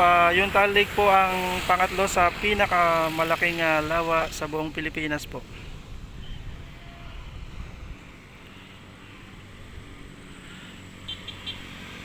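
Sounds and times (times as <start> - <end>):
wind rumbling on microphone: 0.0 - 10.2
distant engine hum: 0.0 - 12.0.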